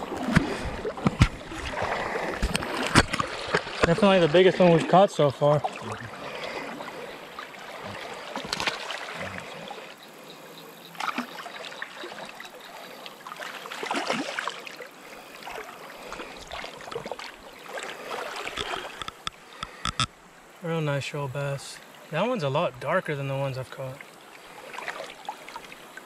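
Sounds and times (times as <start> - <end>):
river water splashing: 0.0 - 21.0, 21.7 - 26.0.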